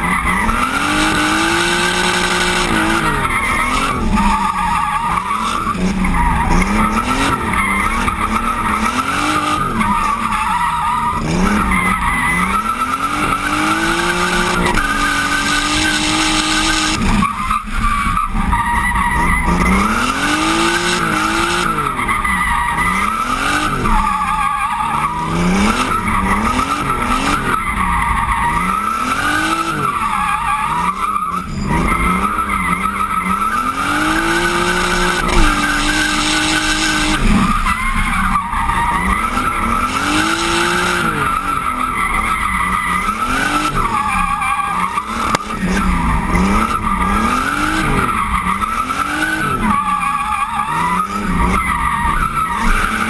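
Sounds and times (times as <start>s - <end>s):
car engine revving: 0.0s - 53.0s
tyres squealing on tarmac: 0.0s - 53.0s.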